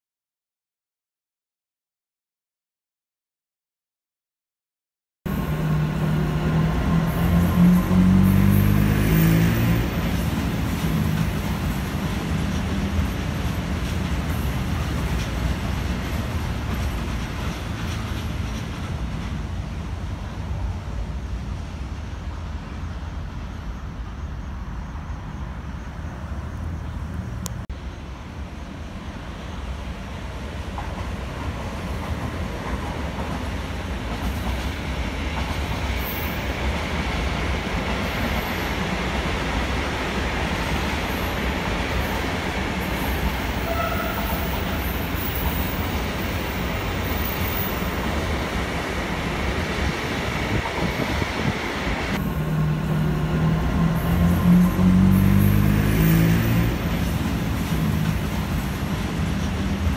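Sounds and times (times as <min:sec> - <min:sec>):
freight wagons rumbling on rails: 0:05.3 - 0:24.5, 0:30.2 - 0:59.9.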